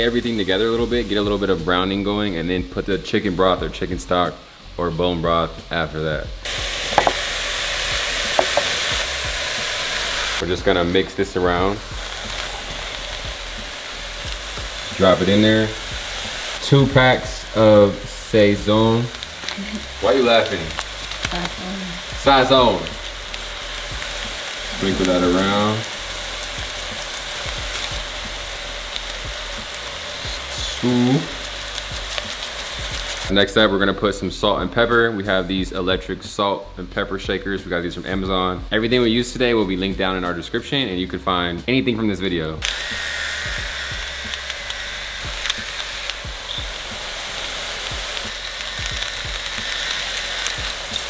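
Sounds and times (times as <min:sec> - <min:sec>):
vegetables sizzling in a pot: 0:00.0 - 0:51.0.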